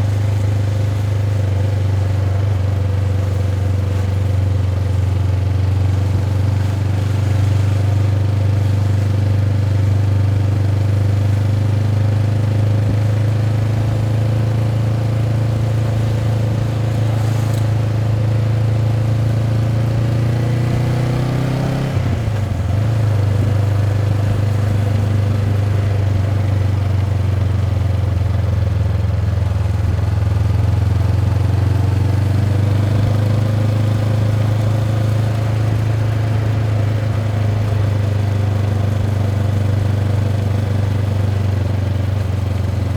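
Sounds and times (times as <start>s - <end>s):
motorcycle engine droning: 0.0s - 42.9s.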